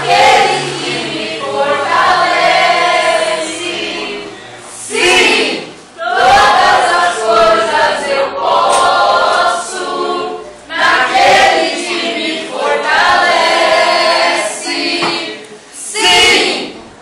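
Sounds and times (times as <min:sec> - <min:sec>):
group singing a worship song: 0:00.0 - 0:16.9.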